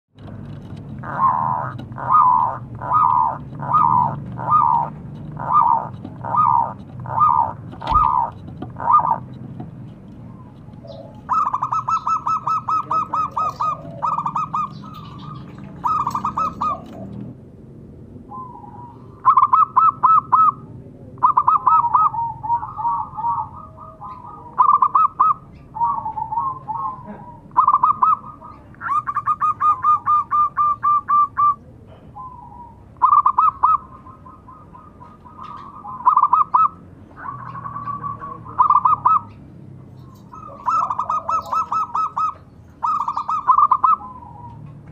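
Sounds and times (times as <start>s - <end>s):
dove cooing: 0.3s - 9.4s, 10.1s - 17.4s, 18.3s - 39.4s, 40.0s - 44.9s.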